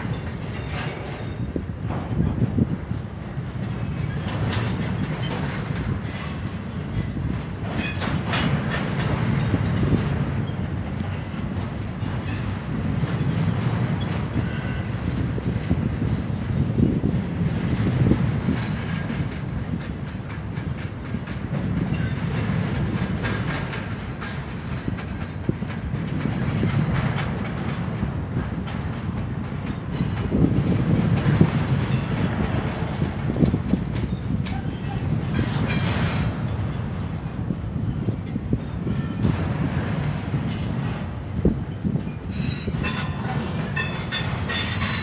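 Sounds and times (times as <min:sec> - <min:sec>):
freight train rumbling: 0:00.0 - 0:45.0
wheels clacking over rail joints: 0:00.0 - 0:45.0.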